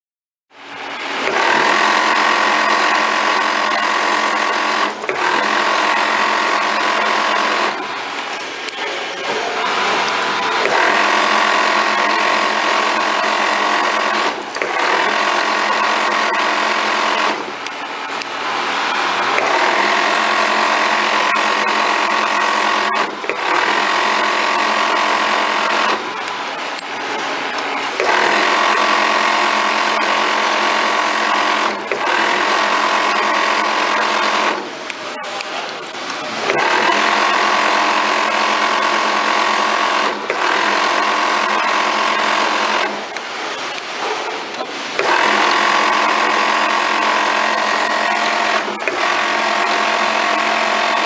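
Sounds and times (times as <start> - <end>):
sewing machine stitching: 1.0 - 18.2, 18.8 - 34.9, 36.3 - 51.0.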